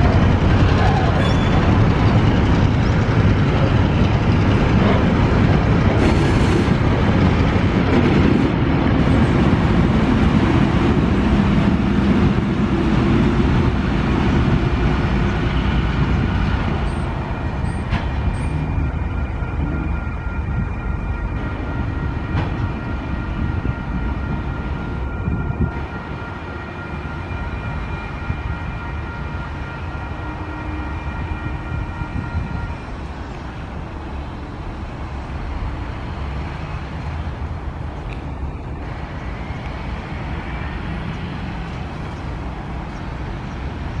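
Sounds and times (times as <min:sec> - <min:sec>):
diesel train rumbling past: 0:00.0 - 0:44.0.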